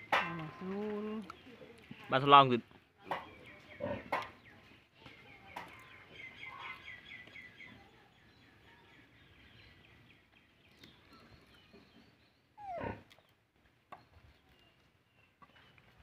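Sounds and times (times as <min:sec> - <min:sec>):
faint yard background: 0:00.0 - 0:16.0.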